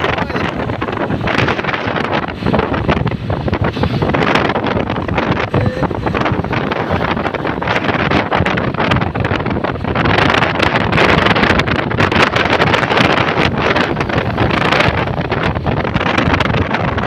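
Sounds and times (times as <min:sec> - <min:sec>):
engine and road noise: 0:00.0 - 0:17.0
wind buffeting microphone: 0:00.0 - 0:17.0.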